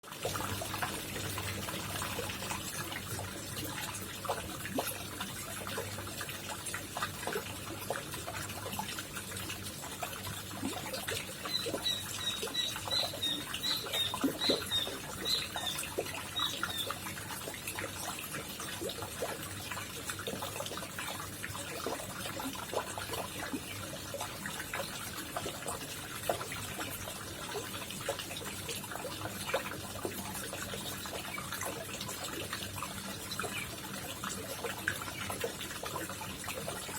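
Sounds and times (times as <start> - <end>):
water trickling and splashing: 0.0 - 36.9.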